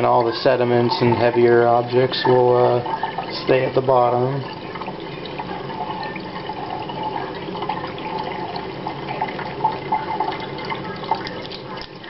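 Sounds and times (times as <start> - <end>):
bubbling blips: 0.0 - 12.0
water pouring into a sink: 0.0 - 12.0.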